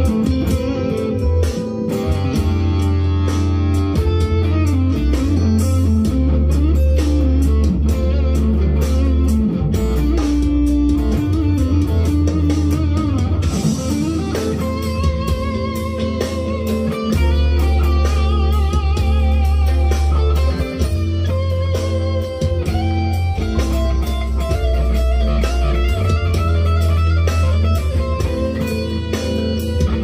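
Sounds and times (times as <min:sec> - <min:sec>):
backing track with bass and drums: 0:00.0 - 0:30.0
electric guitar lead melody: 0:00.0 - 0:30.0.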